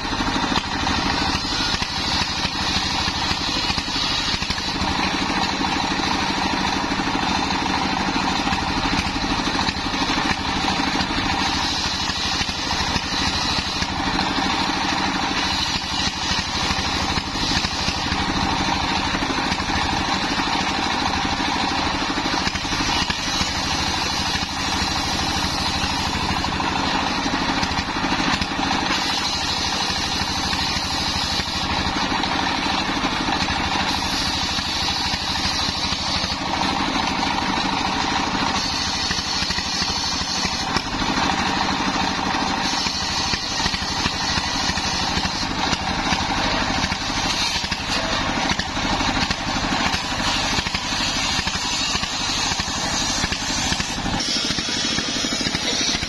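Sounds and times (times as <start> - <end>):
circular saw cutting wood: 0.0 - 56.0
diesel engine chugging: 0.0 - 56.0.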